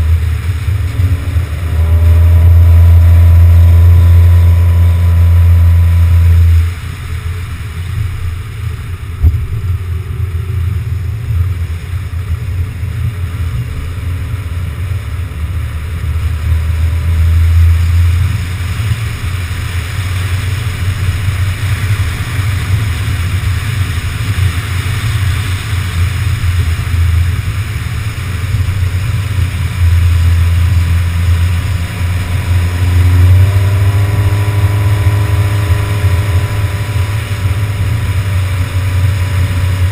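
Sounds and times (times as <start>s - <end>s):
car engine hum: 0.0s - 39.9s
wind and road noise: 0.0s - 39.9s.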